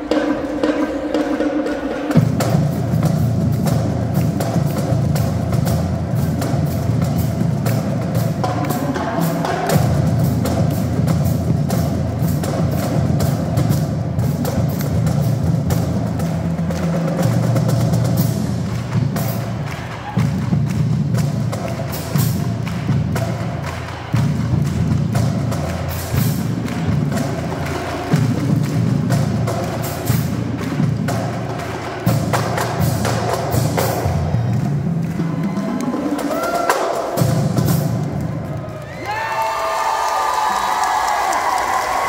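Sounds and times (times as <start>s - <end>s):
snare and tenor drums: 0.0s - 38.6s
bass drums: 0.0s - 39.2s
cymbals: 0.0s - 39.5s.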